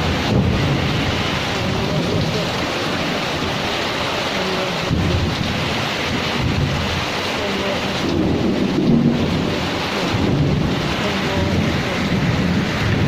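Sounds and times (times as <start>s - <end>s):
heavy rain pouring: 0.0s - 13.0s
thunder rumbling: 0.0s - 13.0s.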